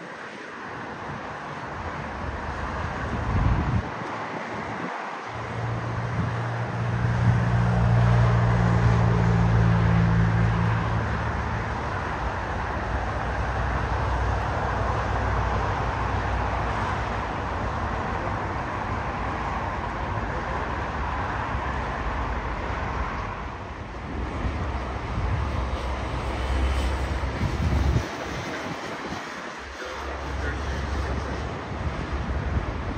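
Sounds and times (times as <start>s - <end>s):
jet engines roaring: 0.0s - 32.9s.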